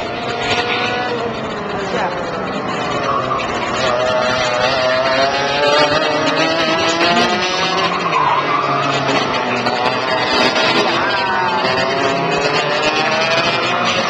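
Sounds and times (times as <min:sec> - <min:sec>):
racing kart engines: 0:00.0 - 0:14.0.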